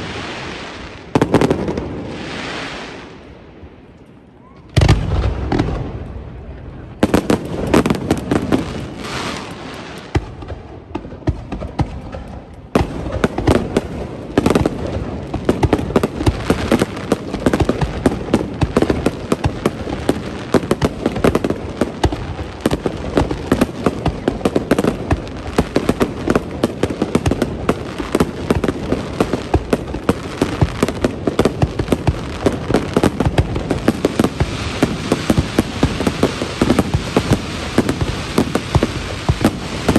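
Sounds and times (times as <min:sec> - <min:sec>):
firework booms: 0:00.0 - 0:03.4, 0:04.7 - 0:39.9
firework crackle of rapid pops: 0:07.0 - 0:39.9.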